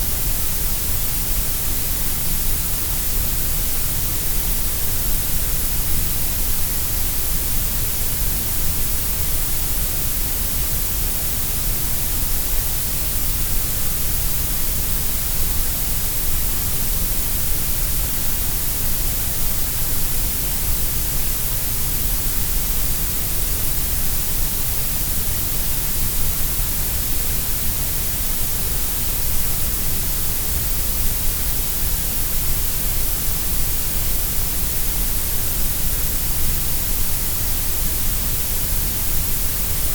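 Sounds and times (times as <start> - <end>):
grey noise hiss: 0.0 - 39.9.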